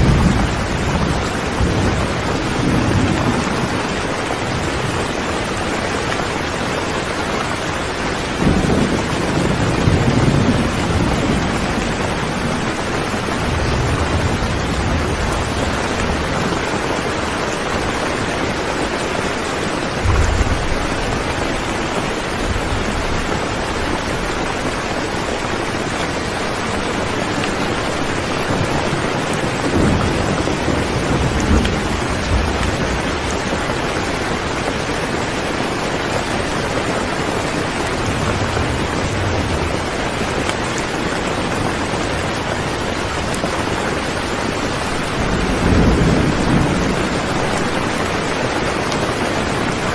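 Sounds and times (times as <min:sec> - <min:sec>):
steady rain falling: 0:00.0 - 0:49.9
thunder rumbling: 0:00.0 - 0:49.9.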